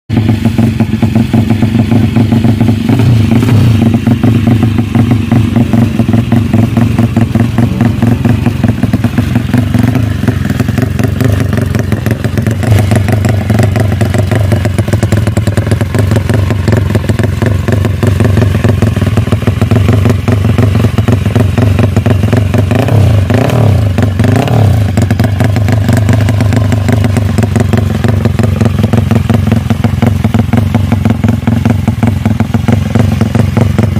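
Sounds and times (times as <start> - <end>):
motorcycle engine fast idle: 0.1 - 33.9.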